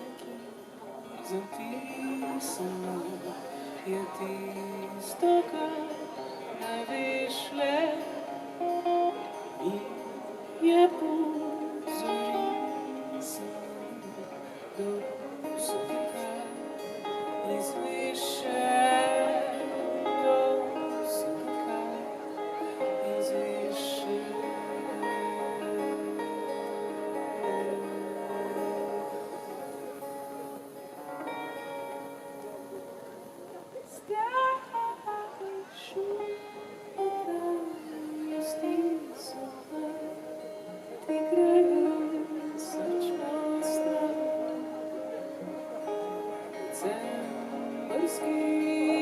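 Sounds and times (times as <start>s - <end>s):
person singing long notes: 0.0s - 49.0s
strummed acoustic guitar: 0.0s - 49.0s.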